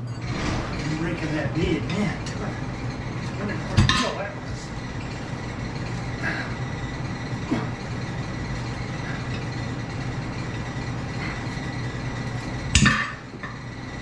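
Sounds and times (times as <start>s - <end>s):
low background hum: 0.0s - 14.0s
tire iron clanking on rim: 0.0s - 14.0s.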